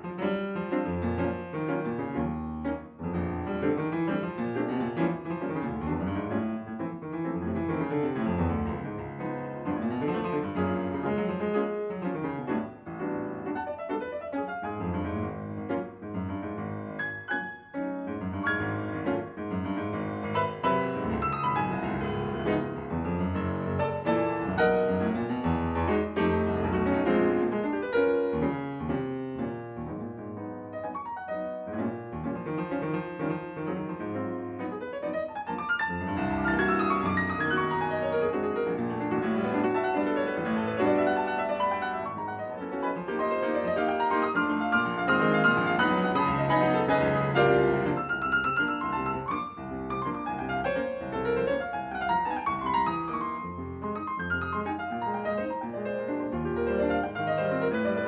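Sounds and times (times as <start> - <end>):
piano piece: 0.0 - 58.0.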